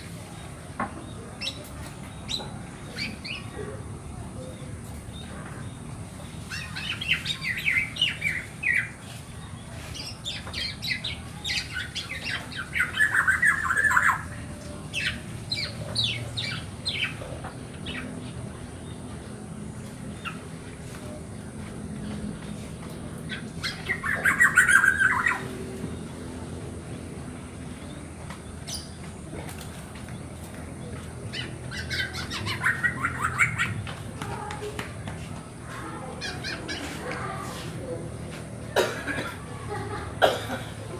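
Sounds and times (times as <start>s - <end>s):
bird chicks calling: 1.1s - 34.6s, 35.4s - 38.0s.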